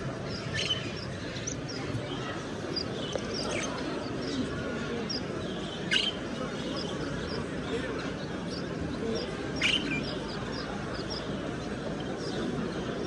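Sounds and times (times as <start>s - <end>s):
crowd chatter: 0.0s - 13.0s
caged birds chirping: 0.1s - 13.0s.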